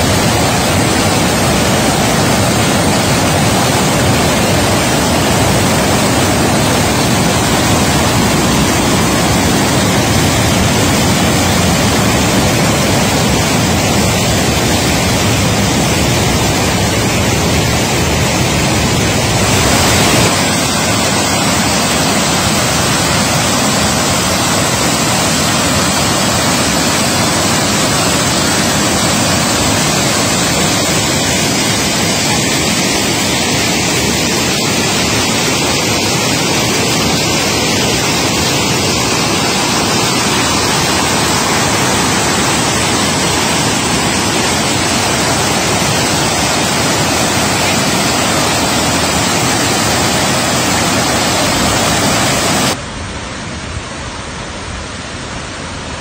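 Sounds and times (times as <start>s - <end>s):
stream rushing over rocks: 0.0s - 53.5s.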